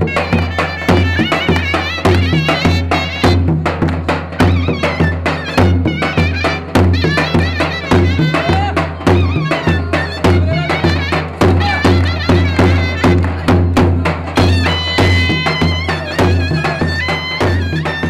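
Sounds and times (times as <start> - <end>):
deep drum beat: 0.0 - 18.0
reedy pipe melody: 0.0 - 18.0.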